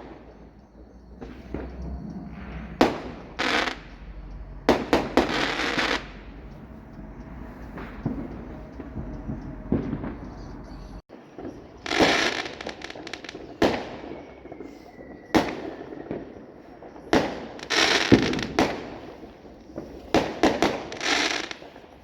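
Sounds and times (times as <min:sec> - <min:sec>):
faint high whistle: 0:00.0 - 0:22.0
firework bangs: 0:00.0 - 0:22.0
firework crackling: 0:00.0 - 0:22.0.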